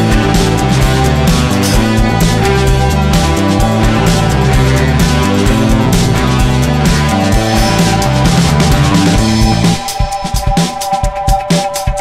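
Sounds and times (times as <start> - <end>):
heavy rock music: 0.0 - 12.0.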